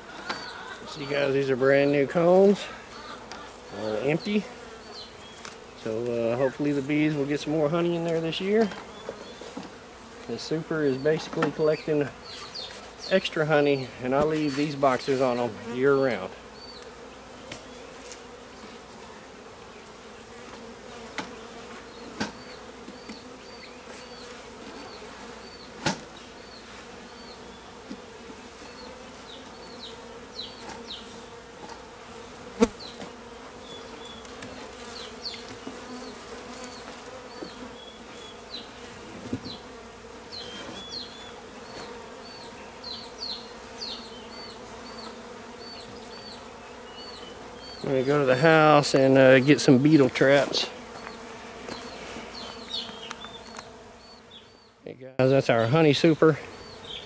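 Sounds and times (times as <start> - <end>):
honeybees buzzing: 0.0 - 57.0.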